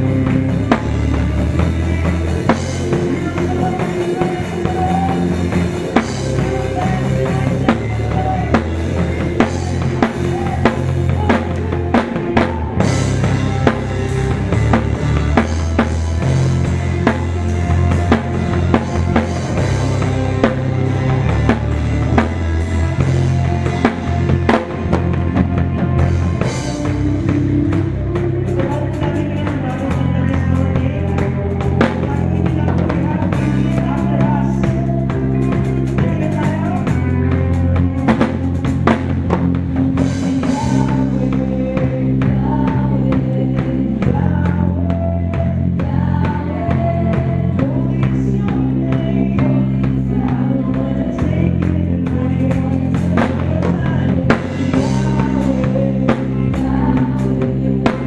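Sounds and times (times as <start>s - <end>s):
drum kit playing: 0.0s - 58.0s
guitars: 0.0s - 58.0s
person singing: 0.0s - 58.0s
sustained bass notes: 0.0s - 58.0s.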